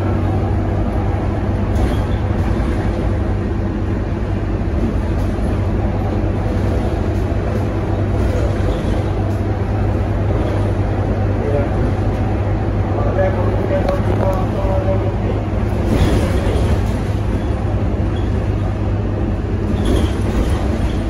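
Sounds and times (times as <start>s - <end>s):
bus diesel engine running: 0.0s - 21.0s
tyre and road noise: 0.0s - 21.0s.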